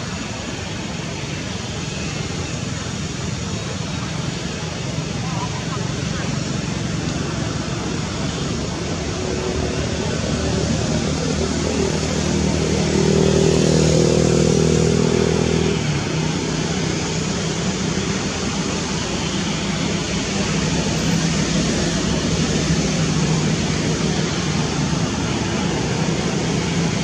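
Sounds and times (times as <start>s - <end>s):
steady hiss: 0.0s - 27.0s
vehicle engine hum: 0.0s - 27.0s.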